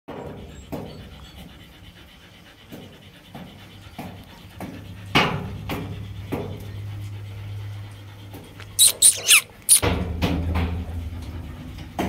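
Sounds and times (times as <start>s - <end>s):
dog panting: 0.1s - 9.9s.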